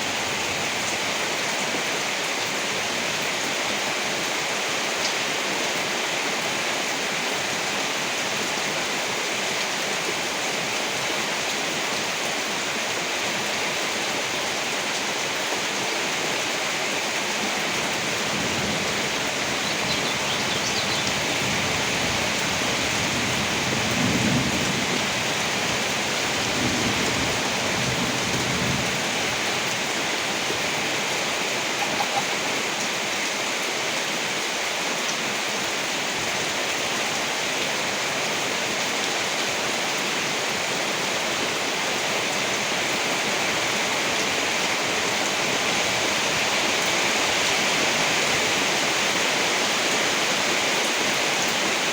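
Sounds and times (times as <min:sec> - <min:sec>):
steady rain hissing: 0:00.0 - 0:51.9.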